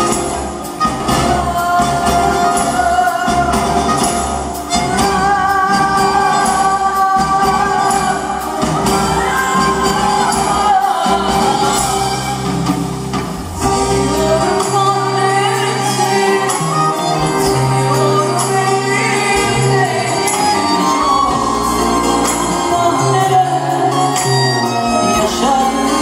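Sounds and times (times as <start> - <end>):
person singing: 0.0 - 12.7, 13.6 - 26.0
live band playing pop song: 0.0 - 26.0.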